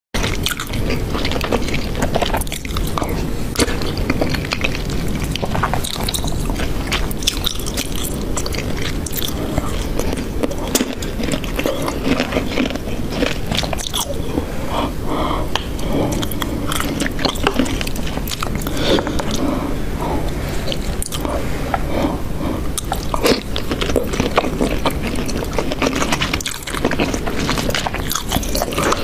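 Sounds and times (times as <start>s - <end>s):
person chewing: 0.2s - 29.0s.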